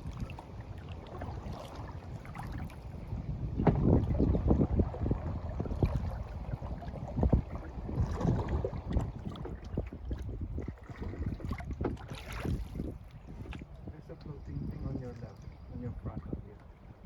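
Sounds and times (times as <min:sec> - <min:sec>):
paddle splashing and dripping: 0:00.0 - 0:15.8
wind rumbling on microphone: 0:00.0 - 0:17.0.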